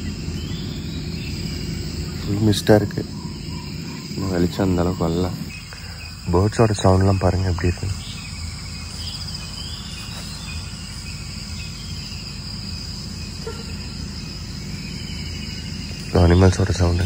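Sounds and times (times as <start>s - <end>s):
faint bird calls: 0.0s - 17.0s
insects trilling: 0.0s - 17.0s.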